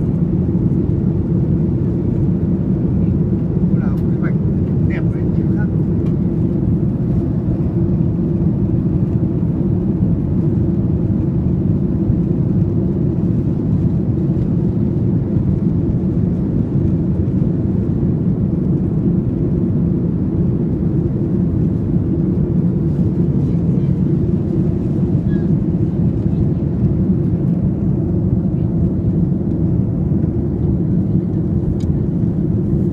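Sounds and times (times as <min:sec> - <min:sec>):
airplane engines rumbling: 0:00.0 - 0:32.9.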